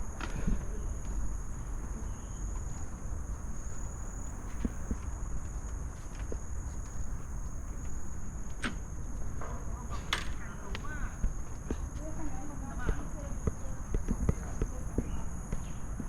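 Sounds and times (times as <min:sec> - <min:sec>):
constant low rumble: 0:00.0 - 0:16.0
high-pitched insect drone: 0:00.0 - 0:16.0
footsteps on trail: 0:00.5 - 0:15.2.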